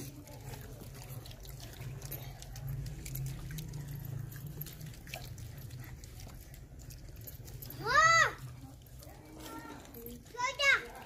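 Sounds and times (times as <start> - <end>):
clicks and rustles of eating: 0.0 - 11.0.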